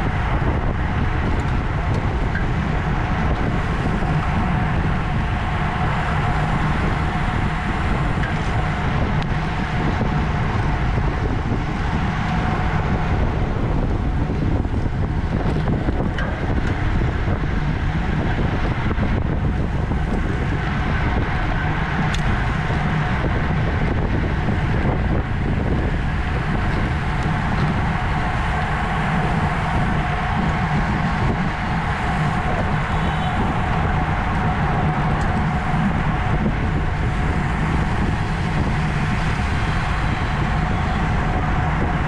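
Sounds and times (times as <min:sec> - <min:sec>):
bike road noise: 0:00.0 - 0:42.0
wind rushing over microphone: 0:00.0 - 0:42.0.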